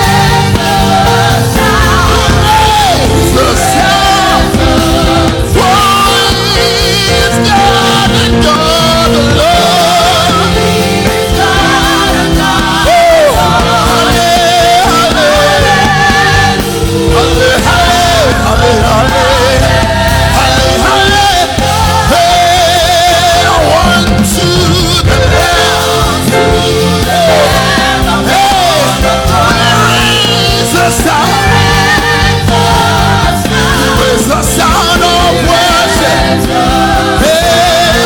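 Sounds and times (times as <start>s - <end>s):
gospel band accompaniment: 0.0s - 38.0s.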